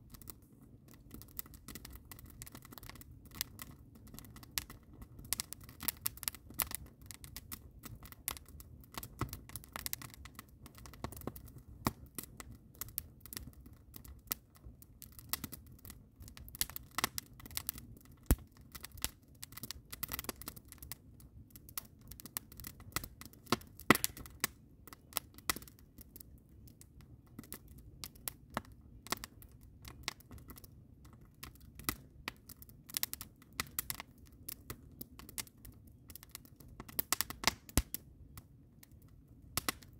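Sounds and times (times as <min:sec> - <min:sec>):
low steady rush of fire: 0:00.0 - 0:39.9
wood fire crackling: 0:00.0 - 0:39.9.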